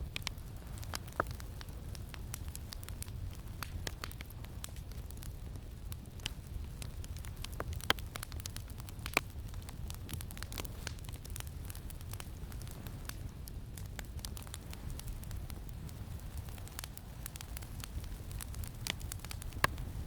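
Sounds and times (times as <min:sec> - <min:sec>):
campfire crackling: 0:00.0 - 0:20.0
low rumble of wind: 0:00.0 - 0:20.0.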